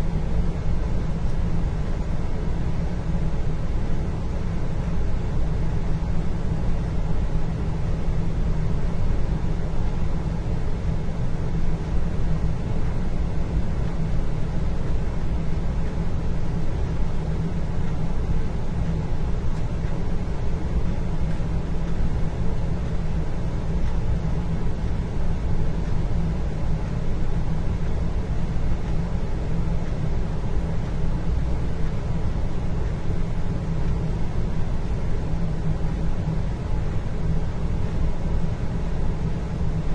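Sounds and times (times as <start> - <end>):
low indoor rumble: 0.0 - 39.9.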